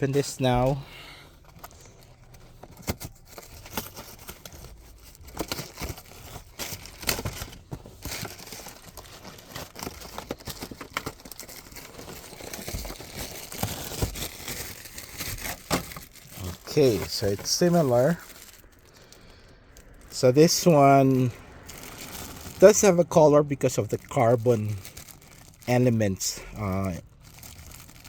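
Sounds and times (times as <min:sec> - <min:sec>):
packaging crinkling and crackling: 0:00.0 - 0:28.0.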